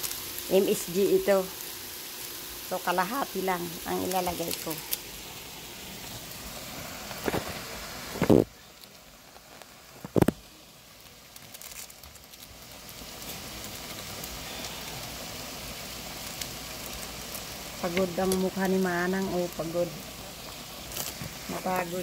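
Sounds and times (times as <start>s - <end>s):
food sizzling on stove: 0.0s - 22.0s.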